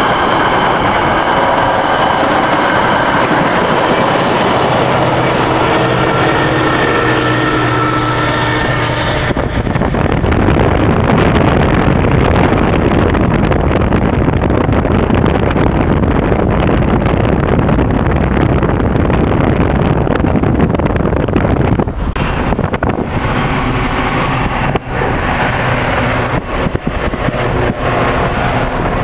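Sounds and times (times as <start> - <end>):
car road noise: 0.0 - 29.0
wind buffeting microphone: 0.0 - 29.0.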